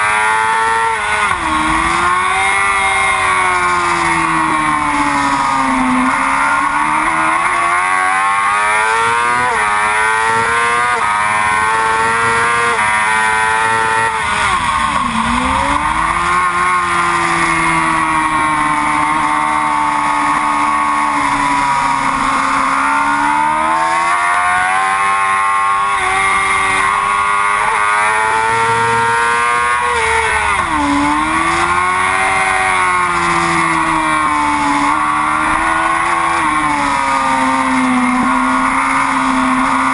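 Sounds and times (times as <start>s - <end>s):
sport motorcycle engine at high revs: 0.0s - 39.9s.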